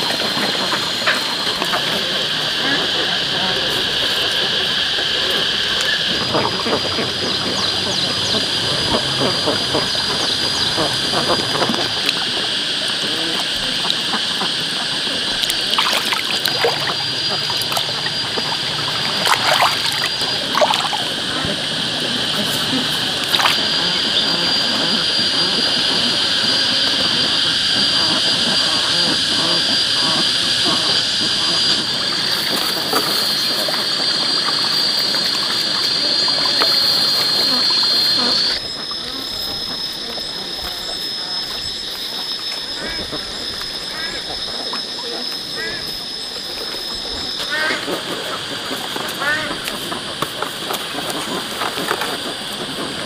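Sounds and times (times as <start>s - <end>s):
ducks calling: 0.0s - 53.0s
high insect-like buzz: 0.0s - 53.0s
high-pitched hiss: 0.0s - 53.0s
thin high whine with chirps: 0.0s - 53.0s.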